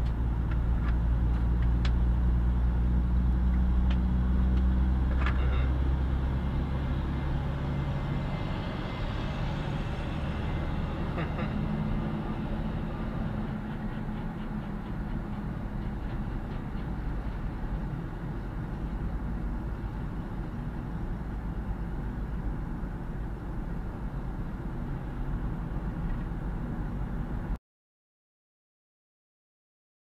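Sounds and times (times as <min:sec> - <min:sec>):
car engine rumble: 0:00.0 - 0:27.6
road noise: 0:00.0 - 0:27.6.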